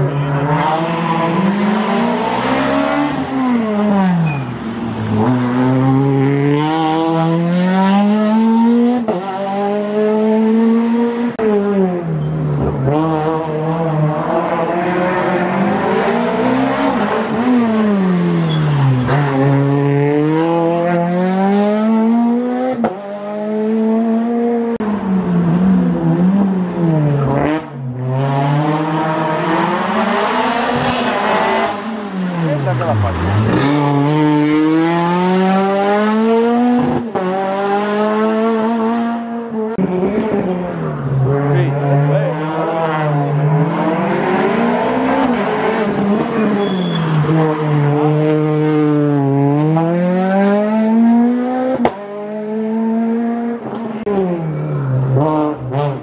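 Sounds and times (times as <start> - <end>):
rally car engines revving past: 0.0 - 56.0.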